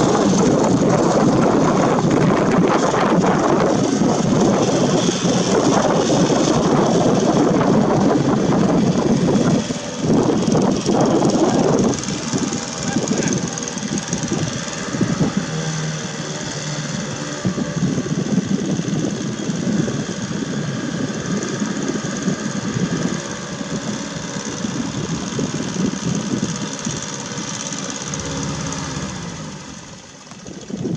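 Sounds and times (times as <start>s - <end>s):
small engine driving propeller: 0.0s - 30.9s.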